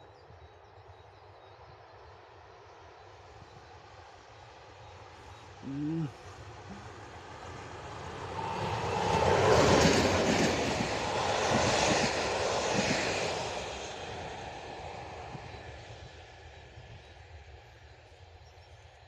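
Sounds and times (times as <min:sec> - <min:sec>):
diesel locomotive engine passing: 0:03.1 - 0:19.0.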